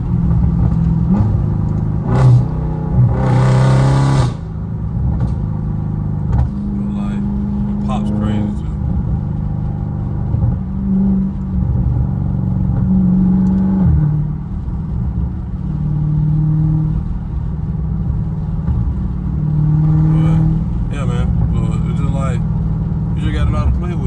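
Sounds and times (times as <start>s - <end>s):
car exhaust droning: 0.0s - 24.0s.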